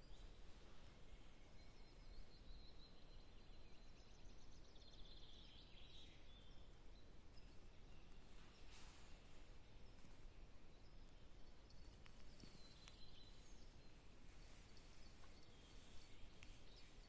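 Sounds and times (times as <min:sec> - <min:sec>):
faint bird song: 0:00.0 - 0:17.0.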